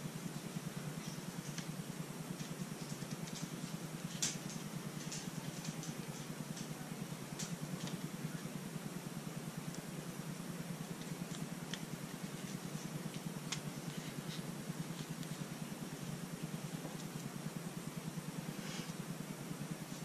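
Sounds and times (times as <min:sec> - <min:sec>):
mechanical hum with flutter: 0:00.0 - 0:20.0.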